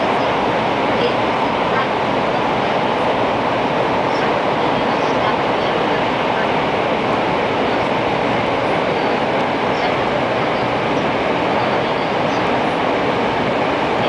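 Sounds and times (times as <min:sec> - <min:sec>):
train cabin rushing hum: 0:00.0 - 0:14.0.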